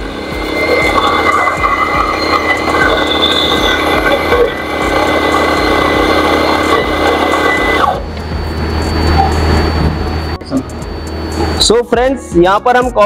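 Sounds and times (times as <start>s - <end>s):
coffee grinder whining: 0.0s - 11.8s.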